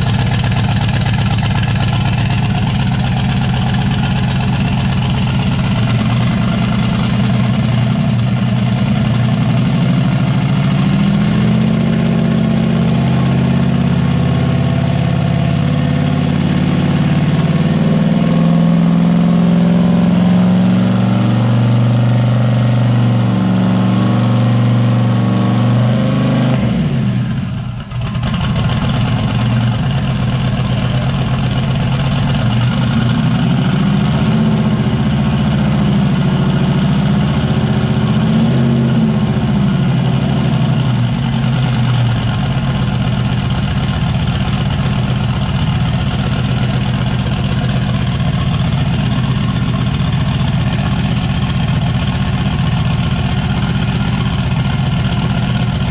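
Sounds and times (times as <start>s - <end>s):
truck engine idling: 0.0s - 18.6s, 26.8s - 55.9s.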